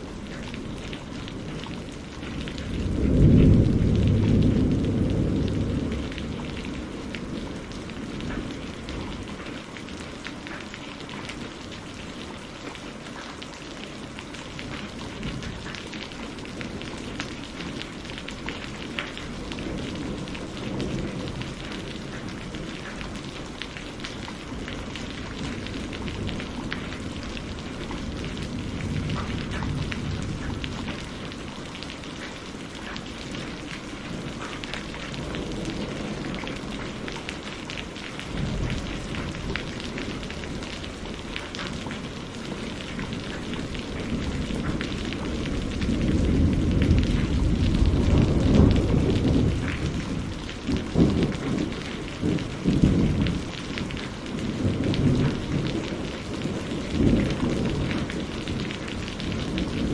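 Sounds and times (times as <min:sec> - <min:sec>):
low thunder rumbling: 0:00.0 - 0:10.1, 0:13.9 - 0:59.9
steady rain pattering: 0:00.0 - 0:59.9.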